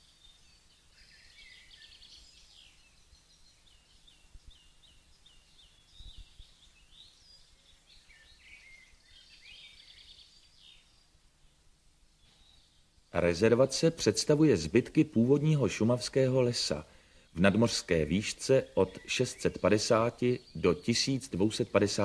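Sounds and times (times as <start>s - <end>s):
songbirds chirping and singing: 0.0s - 22.0s.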